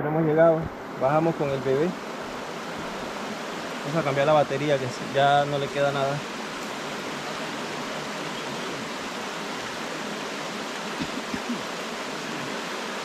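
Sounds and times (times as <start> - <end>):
river running over rocks: 0.0 - 13.0.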